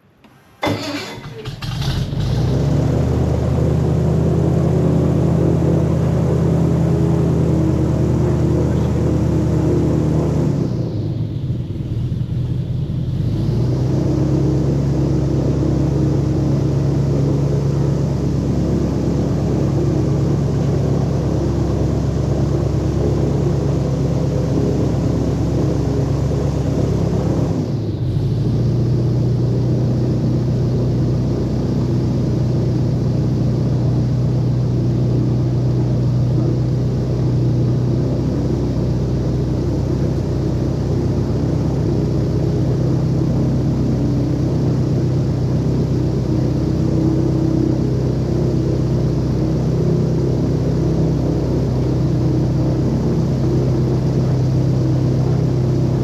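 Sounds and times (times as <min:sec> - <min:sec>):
airboat engine and propeller humming: 0:00.0 - 0:56.0.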